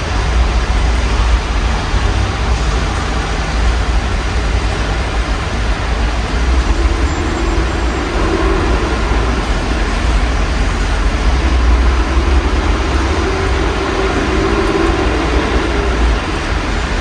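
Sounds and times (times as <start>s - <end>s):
city traffic rumble: 0.0s - 17.0s
faint engine hum: 0.0s - 17.0s
steady rain: 0.0s - 17.0s.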